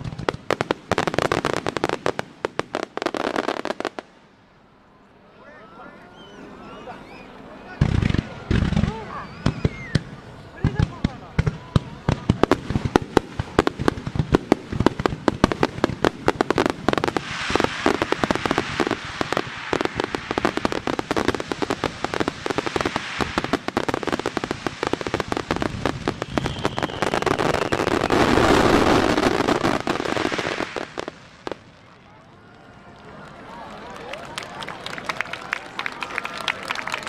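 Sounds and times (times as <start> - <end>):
fireworks crackling: 0.0 - 4.6, 7.1 - 37.0.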